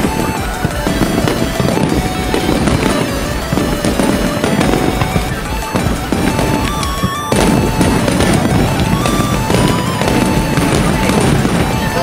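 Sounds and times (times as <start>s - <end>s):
fireworks bursting and crackling: 0.0s - 12.0s
music playing: 0.0s - 12.0s.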